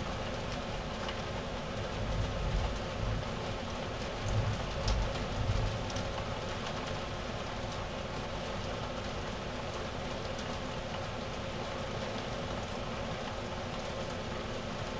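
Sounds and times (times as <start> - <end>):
heavy rain on a window: 0.0 - 14.9.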